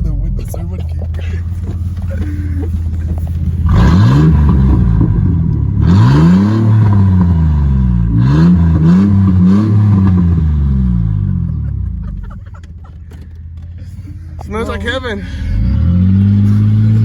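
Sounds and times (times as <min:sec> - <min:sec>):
pickup engine revving: 0:00.0 - 0:17.0.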